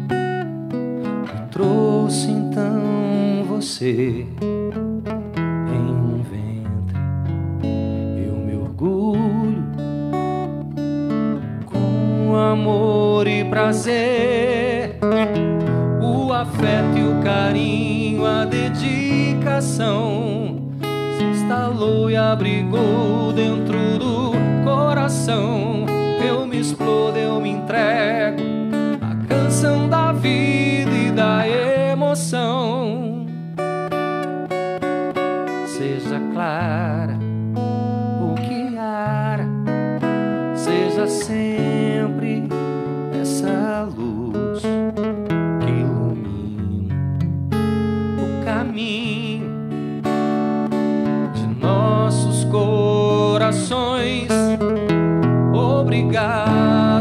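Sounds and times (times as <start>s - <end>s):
guitar playing sustained chords: 0.0s - 57.0s
man singing a slow ballad: 1.2s - 4.8s, 5.6s - 7.1s, 8.0s - 10.1s, 11.6s - 33.6s, 35.4s - 37.4s, 38.2s - 47.1s, 48.1s - 57.0s.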